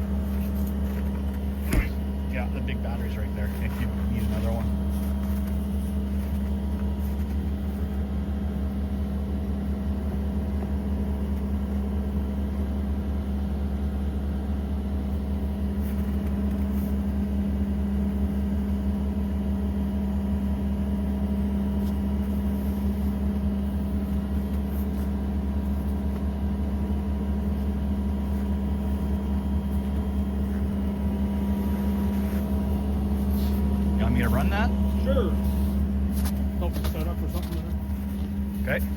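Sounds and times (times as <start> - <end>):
engine idling: 0.0 - 13.8, 14.4 - 38.9.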